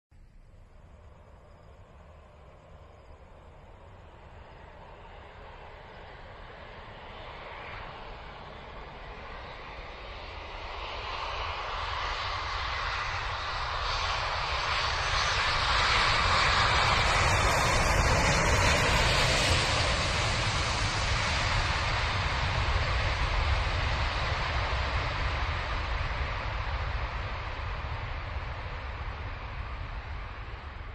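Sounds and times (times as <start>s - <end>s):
jet airliner passing low: 0.4s - 30.9s.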